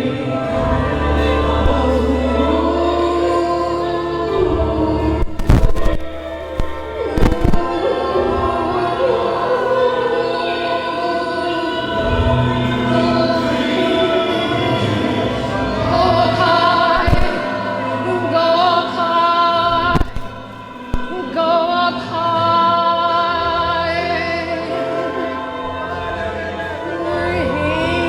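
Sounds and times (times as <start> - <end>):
choir singing: 0.0 - 28.0.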